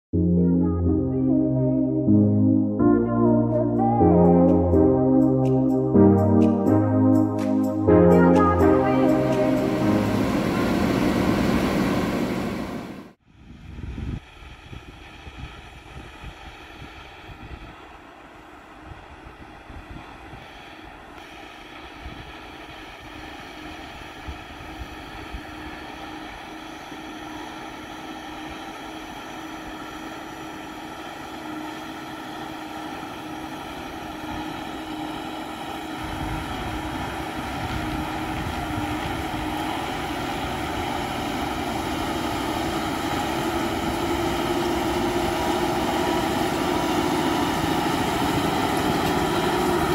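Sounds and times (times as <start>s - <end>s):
tractor diesel engine droning: 0.2s - 13.2s, 22.7s - 49.9s.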